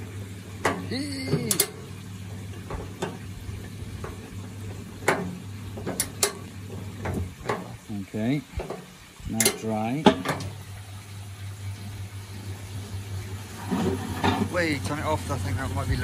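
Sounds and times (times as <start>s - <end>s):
washing machine motor humming: 0.0s - 16.0s.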